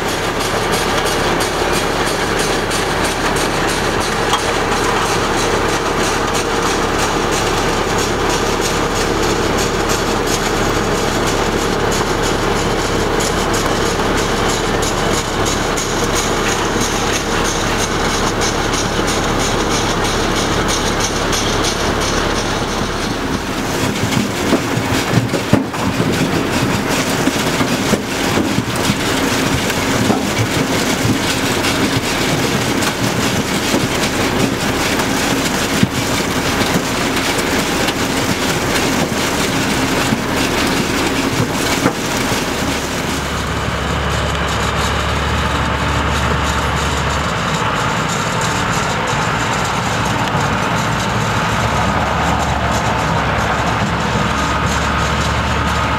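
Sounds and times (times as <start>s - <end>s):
metallic rattle of tumbling beets: 0.0s - 55.9s
tractor engine running: 0.0s - 55.9s.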